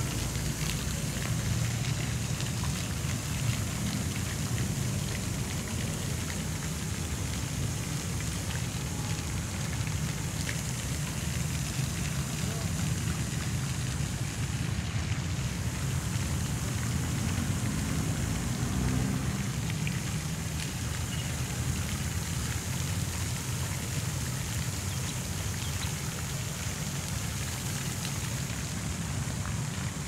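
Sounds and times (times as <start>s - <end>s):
fountain water splashing: 0.0s - 30.0s.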